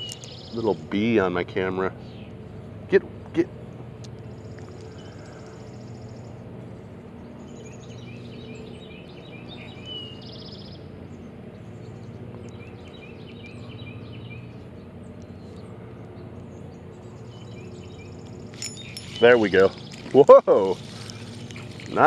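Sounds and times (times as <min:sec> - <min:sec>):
buzzy bird trill: 0:00.0 - 0:02.3, 0:04.2 - 0:22.0
songbirds chirping: 0:00.0 - 0:22.0
steady low drone: 0:00.0 - 0:22.0.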